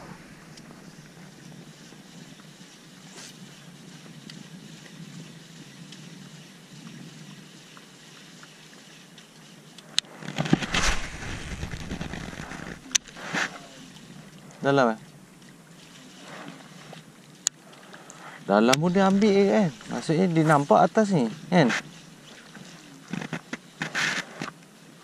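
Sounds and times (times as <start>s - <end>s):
rustling and knocking of fishing rod: 0.0s - 24.7s
wind and water noise: 0.0s - 25.0s.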